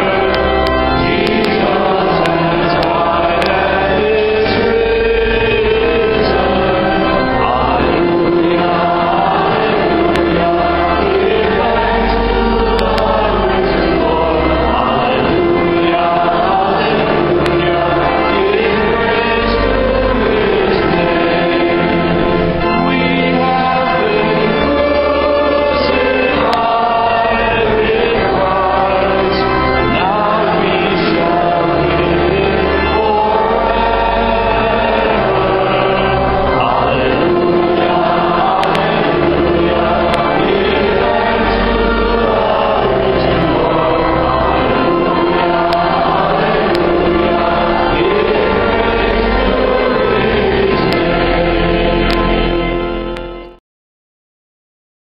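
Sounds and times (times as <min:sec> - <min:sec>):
choir singing church music: 0:00.0 - 0:53.6
sustained low organ notes: 0:00.0 - 0:53.6.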